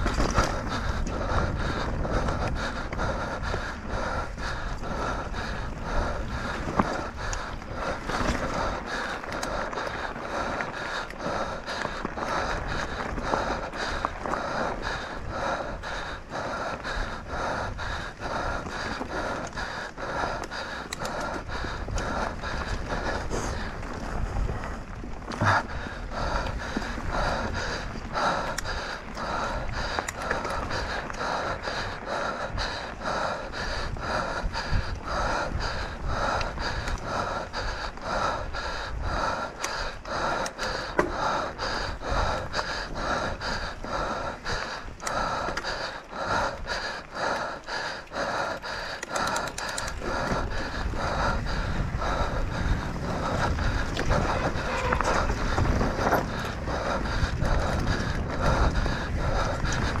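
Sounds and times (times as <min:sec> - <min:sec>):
bike on trail: 0:00.0 - 1:00.0
low wind rumble: 0:00.0 - 1:00.0
person panting hard: 0:00.0 - 1:00.0.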